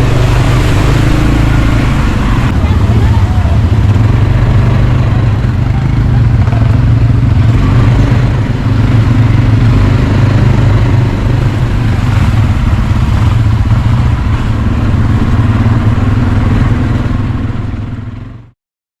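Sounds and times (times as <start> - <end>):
quad bike engine running: 0.0 - 18.6.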